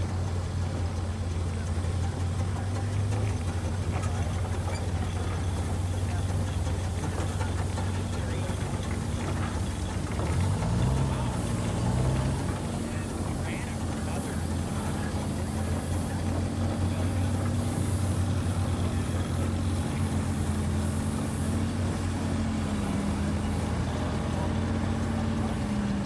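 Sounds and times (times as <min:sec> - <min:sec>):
steam traction engine droning: 0:00.0 - 0:26.0.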